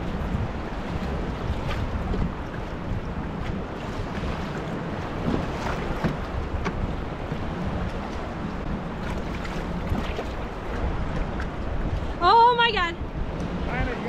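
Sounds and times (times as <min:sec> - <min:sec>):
ocean surf: 0:00.0 - 0:14.0
water sloshing around kayak: 0:00.0 - 0:14.0
wind buffeting microphone: 0:00.0 - 0:14.0.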